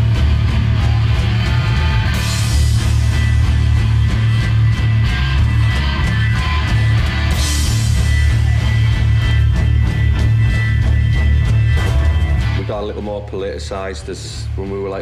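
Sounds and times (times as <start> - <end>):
punk rock band playing: 0.0 - 13.7.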